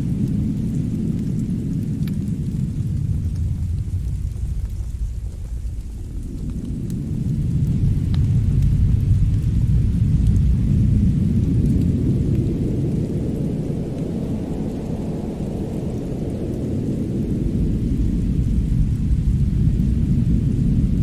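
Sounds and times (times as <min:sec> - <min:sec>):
deep steady rumble: 0:00.0 - 0:21.0
faint fire crackles: 0:00.0 - 0:21.0.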